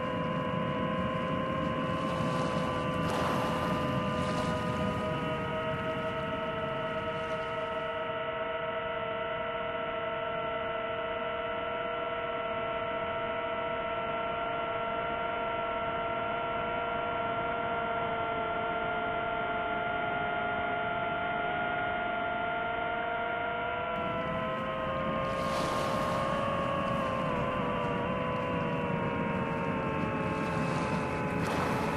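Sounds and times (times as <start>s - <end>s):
drone motors humming: 0.0s - 11.2s, 16.6s - 31.9s.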